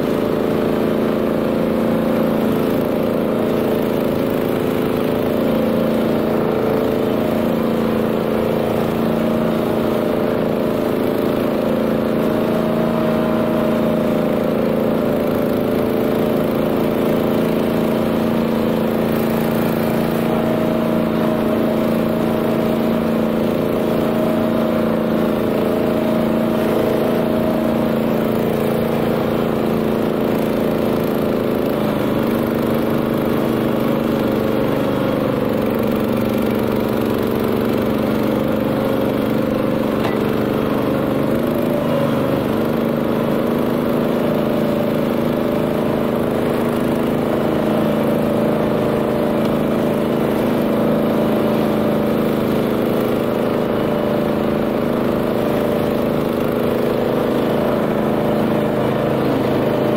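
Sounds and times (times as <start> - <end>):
flail mower cutting grass: 0.0 - 59.9
tractor engine running: 0.0 - 59.9.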